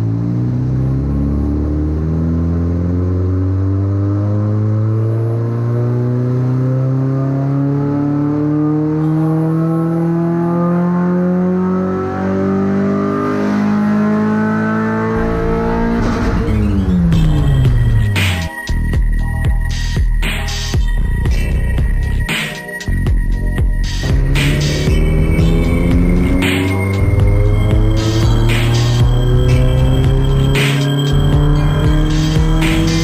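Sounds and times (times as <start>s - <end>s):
car engine revving under load: 0.0s - 18.5s, 22.9s - 33.0s.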